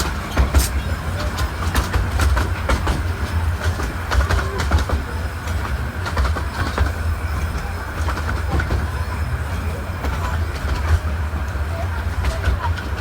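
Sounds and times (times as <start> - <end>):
miniature train rumbling: 0.0 - 13.0
wheels clicking over rails: 0.0 - 13.0.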